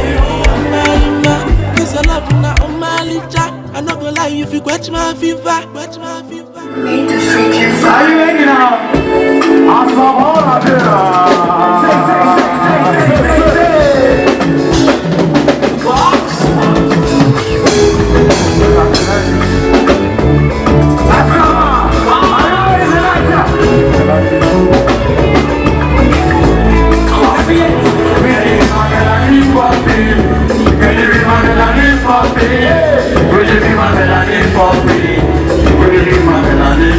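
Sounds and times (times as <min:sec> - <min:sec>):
afrobeats music: 0:00.0 - 0:36.9
person singing: 0:00.0 - 0:36.9.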